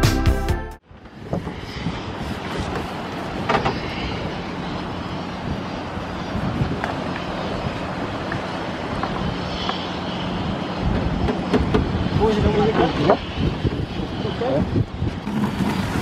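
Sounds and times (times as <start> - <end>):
engine hum and rumble: 0.8 - 16.0
water noise: 0.8 - 16.0
wind: 0.8 - 16.0.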